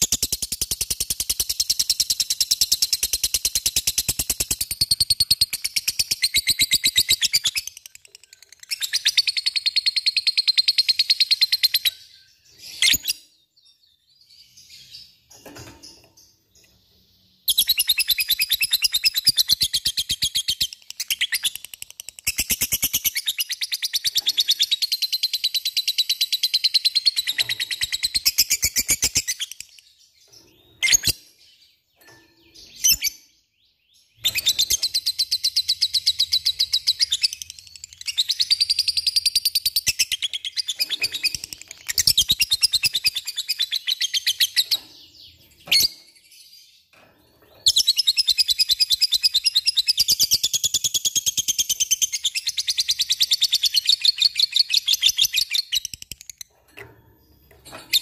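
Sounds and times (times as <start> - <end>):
sharp bird chirps: 0.0 - 46.9, 47.6 - 58.0.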